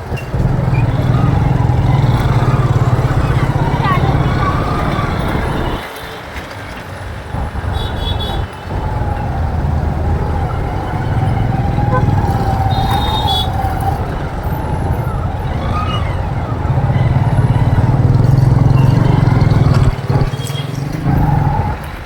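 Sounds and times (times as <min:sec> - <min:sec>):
motorcycle engine and road rumble: 0:00.0 - 0:22.0.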